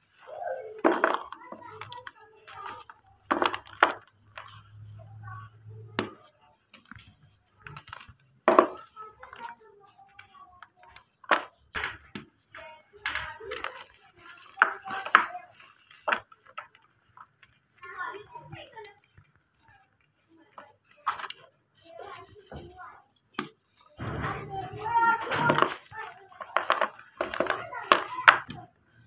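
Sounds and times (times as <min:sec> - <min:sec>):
cement crunching and crackling: 0:00.0 - 0:29.0.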